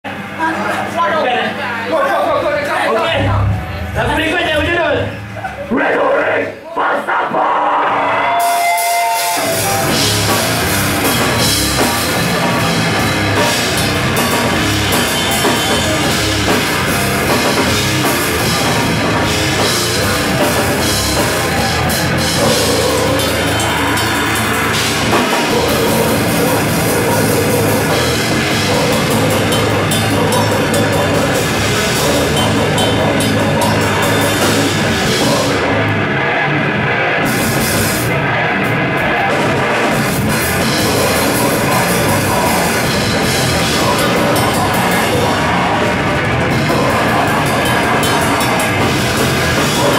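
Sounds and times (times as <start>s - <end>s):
heavy band playing loud: 2.0s - 6.6s, 7.8s - 49.9s.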